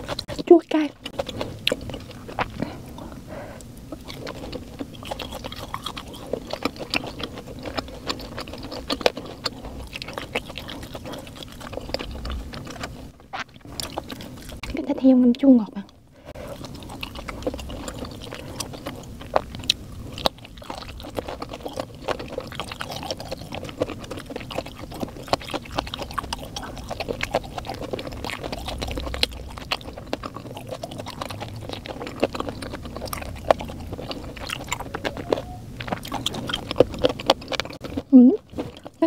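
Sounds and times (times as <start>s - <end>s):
person chewing food: 0.0s - 14.9s, 15.8s - 39.0s.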